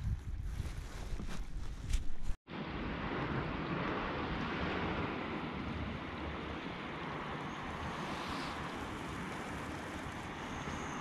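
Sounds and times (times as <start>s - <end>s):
wind buffeting microphone: 0.0s - 11.0s
wind hiss: 1.9s - 11.0s.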